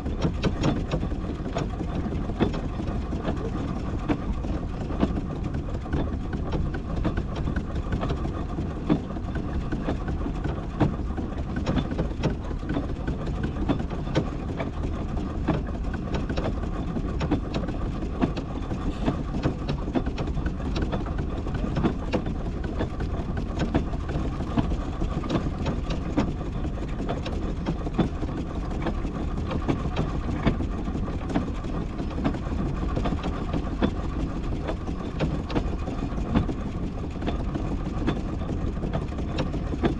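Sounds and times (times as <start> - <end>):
steam engine running: 0.0 - 39.9.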